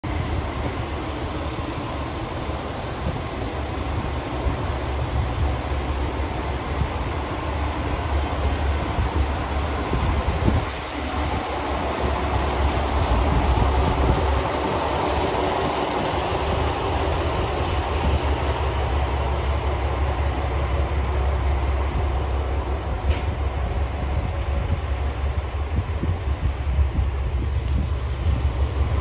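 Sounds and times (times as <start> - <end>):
diesel railcar engine hum: 0.0 - 29.0
train wheel noise: 0.0 - 29.0.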